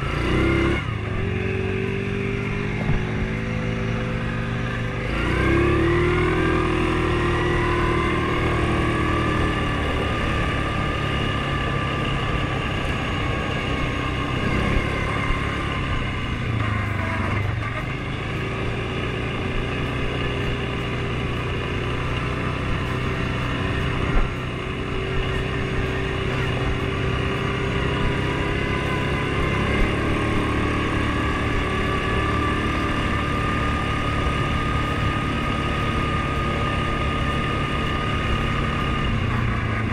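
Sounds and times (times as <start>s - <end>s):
off-road vehicle engine whine: 0.0s - 39.9s.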